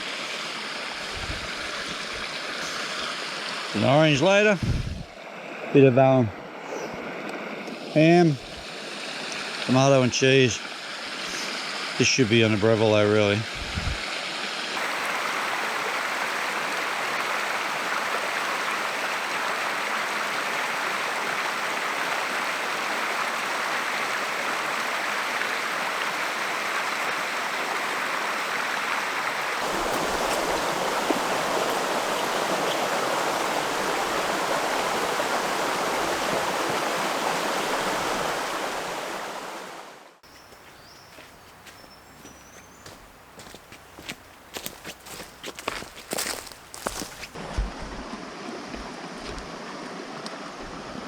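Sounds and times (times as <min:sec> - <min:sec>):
flowing river water: 0:00.0 - 0:51.0.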